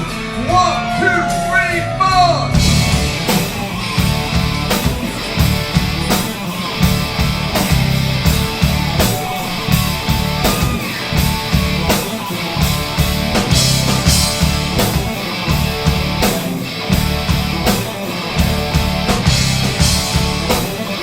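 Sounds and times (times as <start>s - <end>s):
drum beat: 0.0s - 21.0s
electric guitar: 0.0s - 21.0s.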